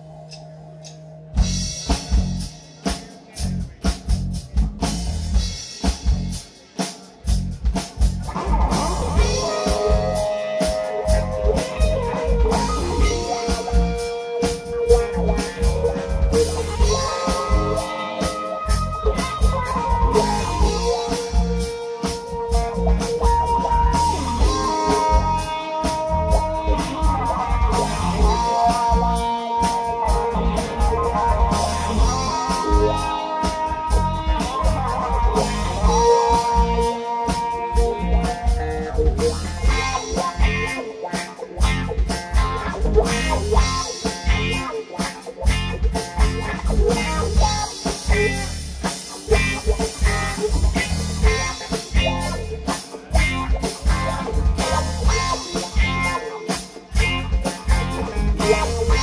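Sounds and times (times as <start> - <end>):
bass guitar: 0.0 - 59.0
rock band playing: 0.0 - 59.0
drum kit: 0.1 - 59.0
electric guitar lines: 8.3 - 59.0.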